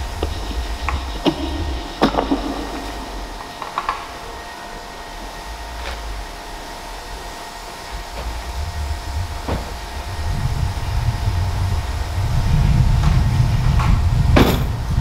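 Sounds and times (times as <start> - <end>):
electronic high hum tones: 0.0 - 15.0
low rumble: 0.0 - 15.0.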